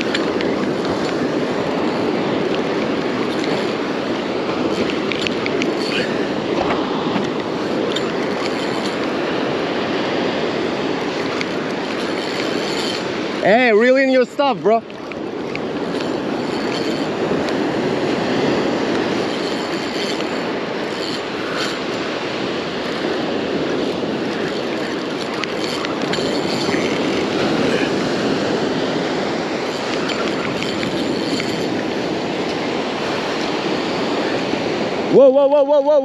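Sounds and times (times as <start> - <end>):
surf rushing on beach: 0.0 - 36.0.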